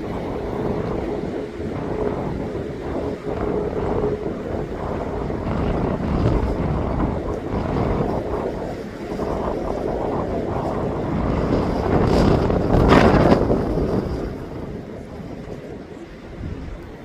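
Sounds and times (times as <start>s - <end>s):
jet engine rumble: 0.0s - 17.0s
wind buffeting microphone: 0.0s - 17.0s.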